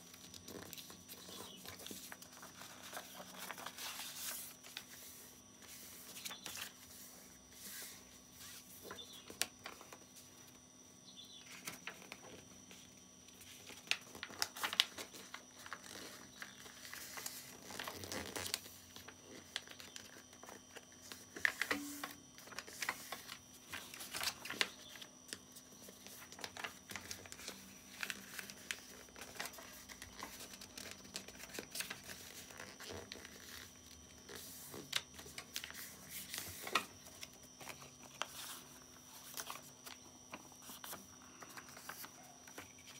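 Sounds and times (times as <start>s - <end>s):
paper rustling and crinkling: 0.0s - 10.3s, 11.4s - 42.9s
faint steady hum: 0.0s - 42.9s.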